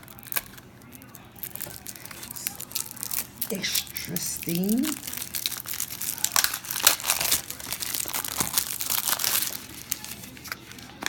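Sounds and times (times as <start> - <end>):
candy packaging crinkling: 0.0 - 11.0.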